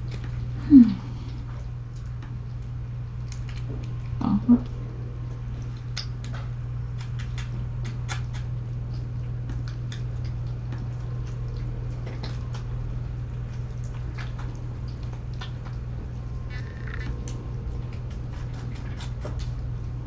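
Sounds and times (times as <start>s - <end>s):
kittens chewing and lapping: 0.0s - 20.0s
steady low hum: 0.0s - 20.0s.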